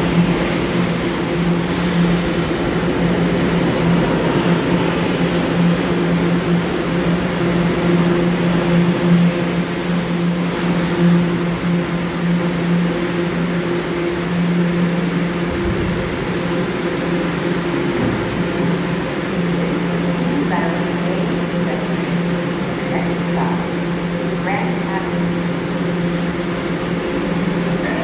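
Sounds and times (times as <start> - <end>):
subway car electric hum: 0.0 - 28.0.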